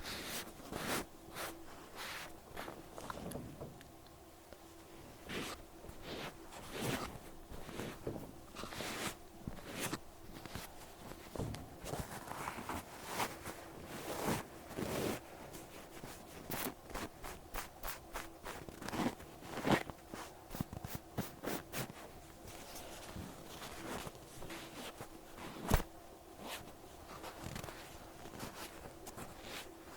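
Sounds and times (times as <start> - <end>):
cotton pad rubbing over ear: 0.0 - 3.0, 5.2 - 29.9.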